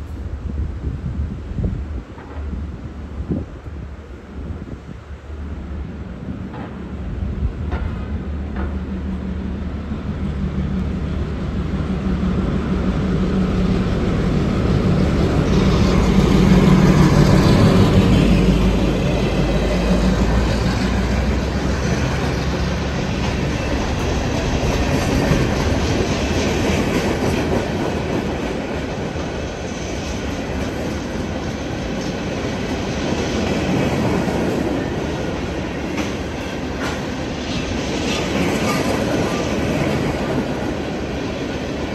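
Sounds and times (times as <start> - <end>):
diesel locomotive engine hum: 0.0 - 41.9
train wheels clacking over rails: 6.4 - 41.9.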